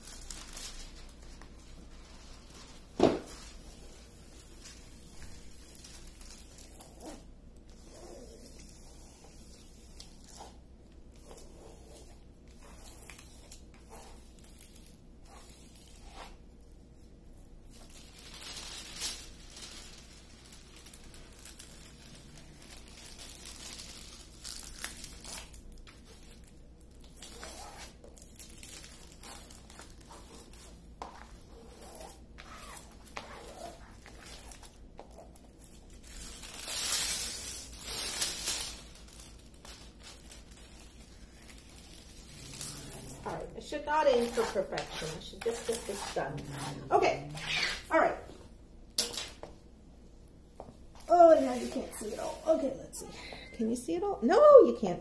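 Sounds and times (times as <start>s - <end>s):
plastic sheet crinkling: 0.0s - 48.3s, 50.8s - 53.4s.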